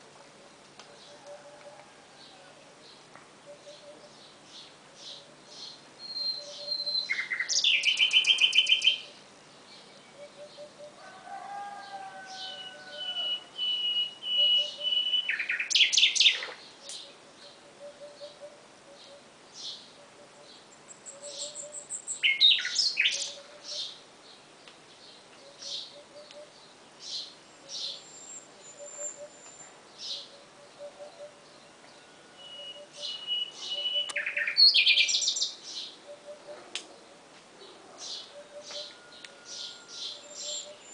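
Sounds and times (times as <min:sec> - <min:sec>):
nightingale singing: 0:00.3 - 0:11.0, 0:11.8 - 0:40.9.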